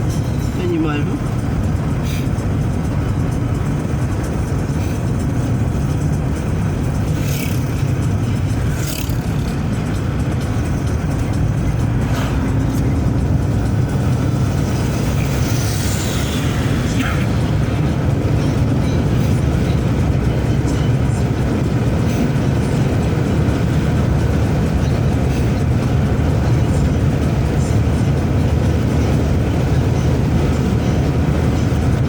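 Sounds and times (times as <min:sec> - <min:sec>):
road vehicle rumbling: 0:00.0 - 0:32.0.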